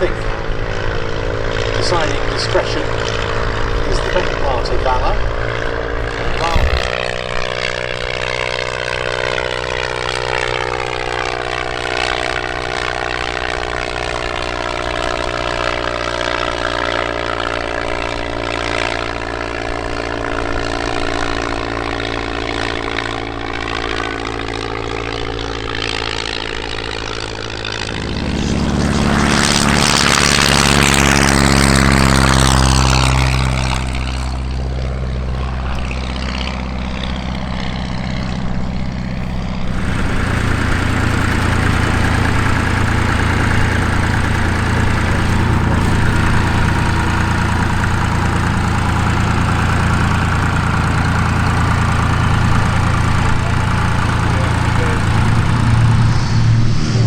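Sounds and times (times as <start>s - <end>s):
aircraft engine drone: 0.0s - 19.6s, 26.9s - 57.0s.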